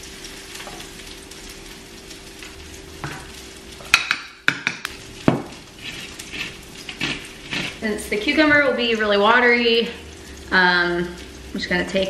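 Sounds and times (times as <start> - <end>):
food sizzling in frying pan: 0.0 - 12.0
low steady hum: 0.0 - 12.0.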